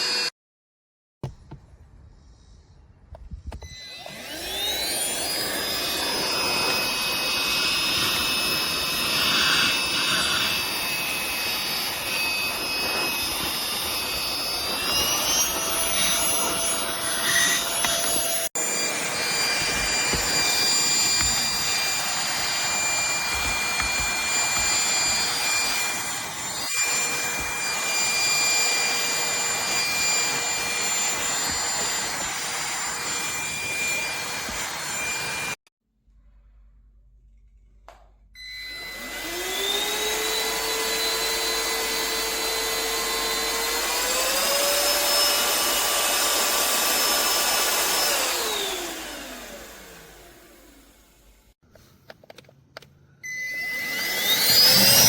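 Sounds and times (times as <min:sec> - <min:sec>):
handheld vacuum cleaner whine: 0:00.0 - 0:00.3, 0:03.4 - 0:35.7, 0:38.4 - 0:51.6, 0:53.2 - 0:55.0.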